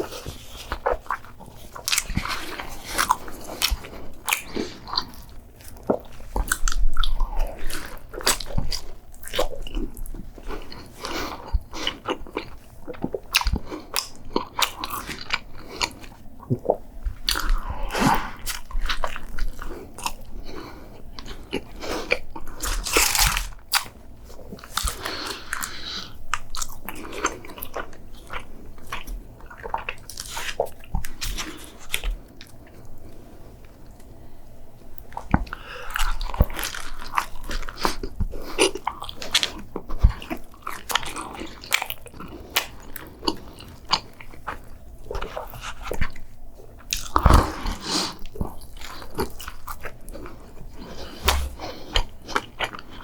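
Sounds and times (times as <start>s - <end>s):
biting and chewing food: 0.0s - 32.8s, 35.0s - 53.0s.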